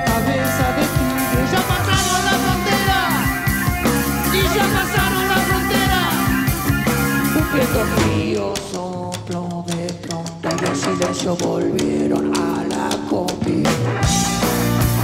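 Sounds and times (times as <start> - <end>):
electric guitar: 0.0 - 9.0, 10.4 - 15.0
bass guitar: 0.0 - 15.0
drums: 0.0 - 15.0.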